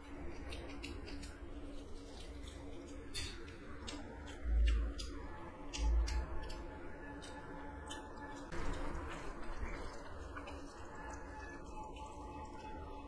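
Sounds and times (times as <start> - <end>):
wet squishing of food by hand: 0.0 - 13.0.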